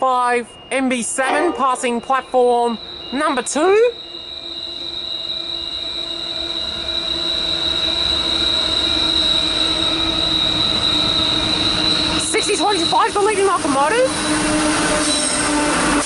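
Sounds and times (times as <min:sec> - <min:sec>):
diesel freight train approaching: 0:00.0 - 0:16.0
high-pitched squeal: 0:00.4 - 0:16.0.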